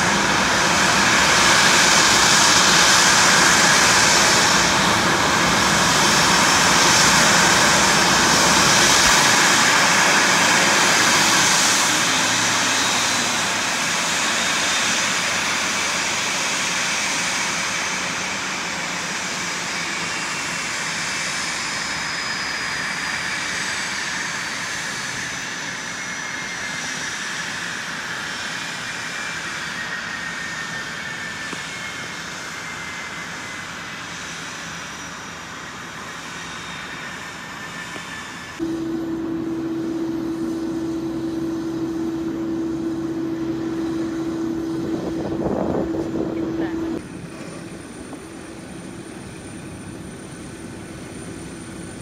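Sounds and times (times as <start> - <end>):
jet engines whining: 0.0 - 52.0.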